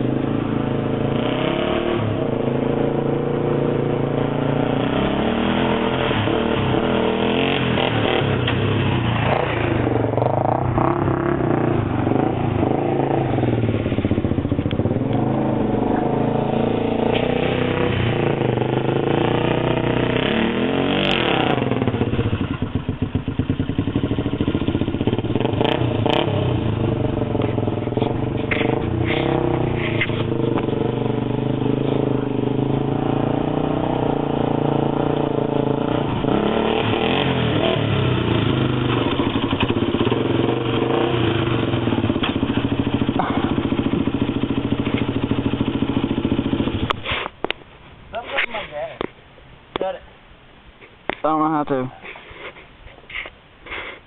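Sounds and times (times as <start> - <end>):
atv engine revving: 0.0 - 47.6.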